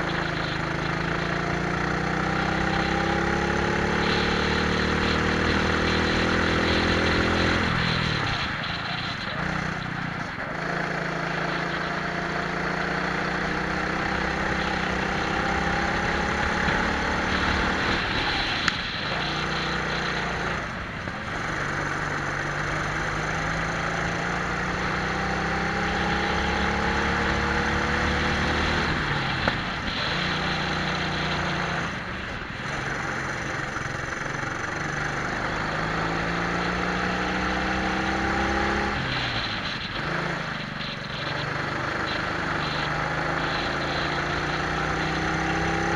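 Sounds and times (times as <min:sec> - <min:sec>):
kart engines at full throttle: 0:00.0 - 0:45.9.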